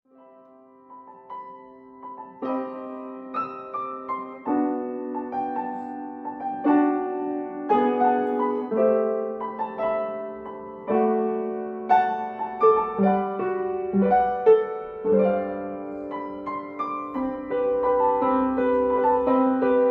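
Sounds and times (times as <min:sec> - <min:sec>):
slow piano melody: 0:00.1 - 0:19.9.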